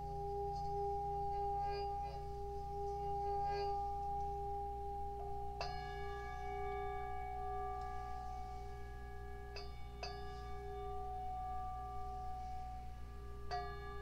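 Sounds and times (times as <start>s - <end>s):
low steady hum: 0.0s - 14.0s
struck bell tones: 0.0s - 14.0s.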